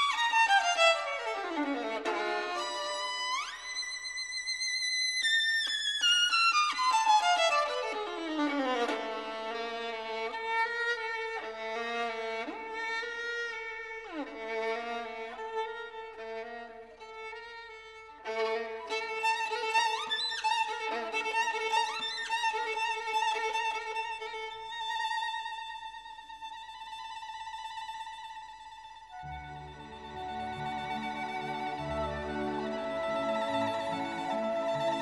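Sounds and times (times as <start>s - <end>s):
violin melody: 0.0s - 35.0s.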